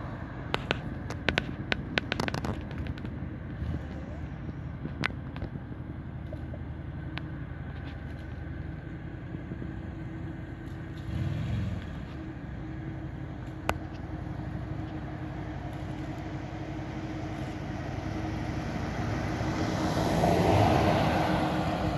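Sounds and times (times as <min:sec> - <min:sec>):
approaching vehicle tyre noise: 0:00.0 - 0:21.9
vehicle engine idling: 0:00.0 - 0:21.9.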